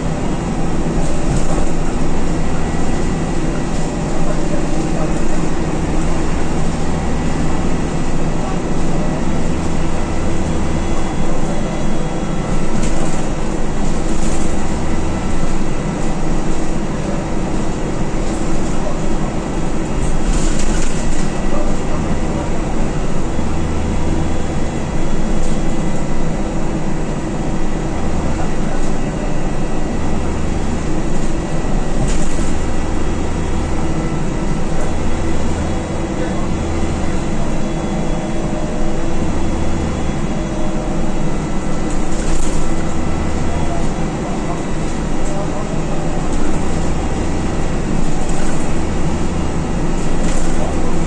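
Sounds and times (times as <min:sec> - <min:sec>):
bus engine running: 0:00.0 - 0:51.0
road and tyre noise: 0:00.0 - 0:51.0.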